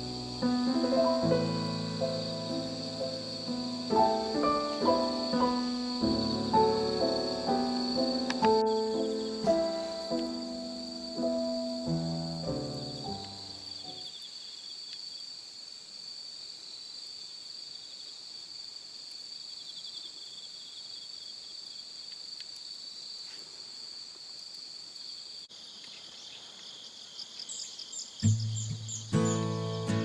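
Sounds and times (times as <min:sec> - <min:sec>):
crickets and insects singing: 0:00.0 - 0:30.0.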